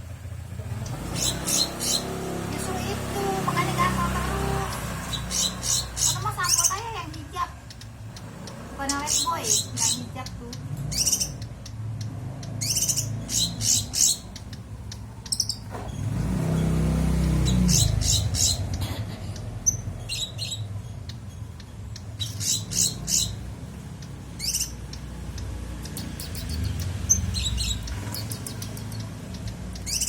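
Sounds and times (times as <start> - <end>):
songbird chirping: 0.3 - 30.0.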